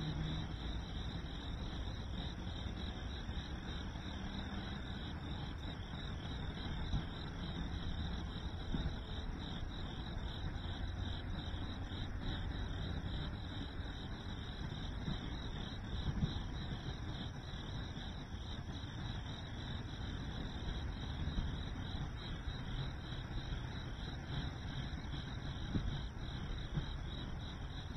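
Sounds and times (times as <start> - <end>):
continuous low rumble: 0.0 - 27.9
crickets chirping: 0.0 - 27.9.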